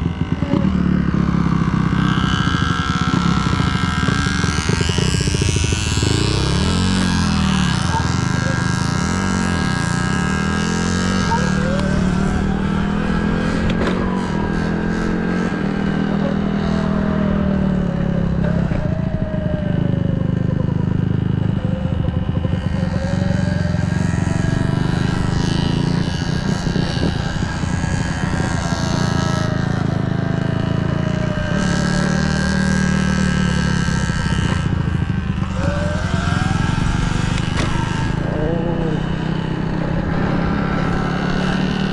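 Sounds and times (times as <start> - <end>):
dirt bikes revving: 0.0 - 41.9.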